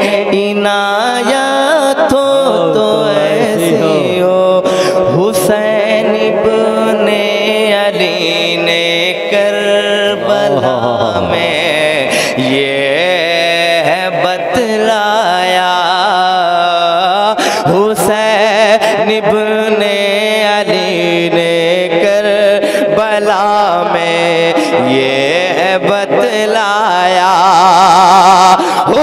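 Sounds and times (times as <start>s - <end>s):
man singing ornamented notes: 0.0s - 29.0s.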